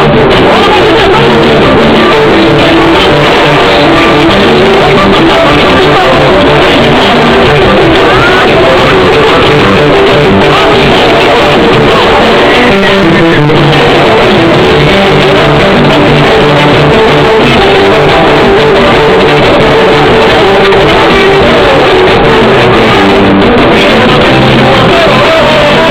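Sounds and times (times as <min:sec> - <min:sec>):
loud music from car speakers: 0:00.0 - 0:25.9.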